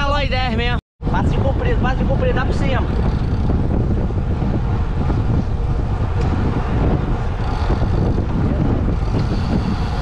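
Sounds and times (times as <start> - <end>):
wind rushing over microphone: 0.0 - 10.0
bike tyres humming on asphalt: 1.4 - 10.0.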